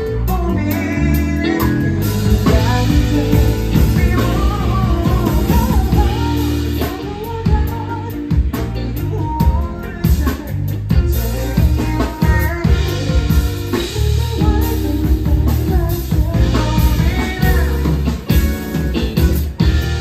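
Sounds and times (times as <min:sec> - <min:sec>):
drum kit steady beat: 0:00.0 - 0:20.0
electric bass: 0:00.0 - 0:20.0
electric guitar: 0:00.0 - 0:20.0
man singing: 0:00.0 - 0:20.0.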